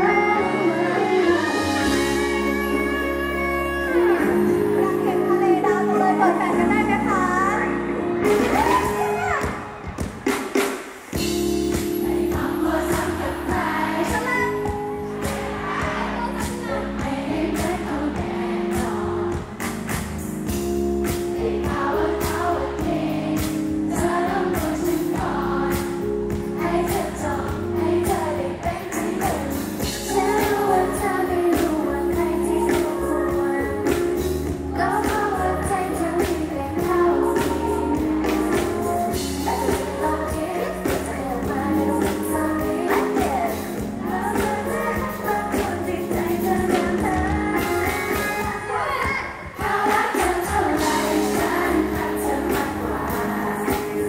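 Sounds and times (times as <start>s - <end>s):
pop song with female vocals: 0.0s - 9.8s, 11.2s - 54.0s.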